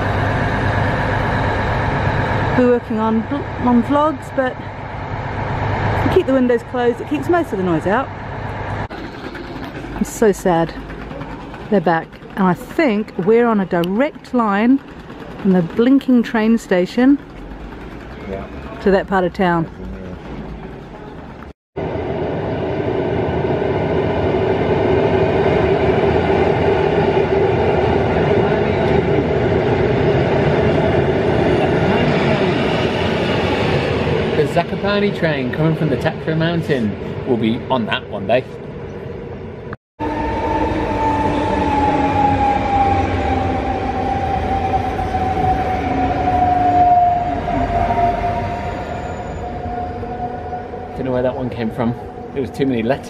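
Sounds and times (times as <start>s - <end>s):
electric train rumbling on viaduct: 0.0s - 53.0s.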